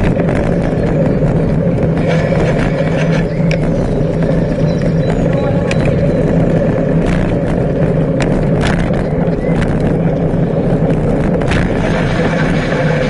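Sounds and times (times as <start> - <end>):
bicycle clicks and rattles: 0.0 - 13.0
bicycle rolling on tarmac: 0.0 - 13.0.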